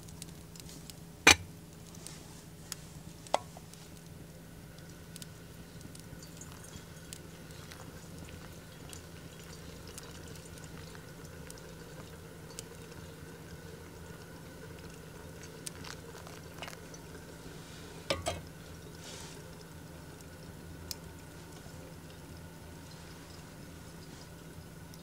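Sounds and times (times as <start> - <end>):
wood fire crackling: 0.0 - 25.0
water trickling onto coffee: 3.3 - 25.0.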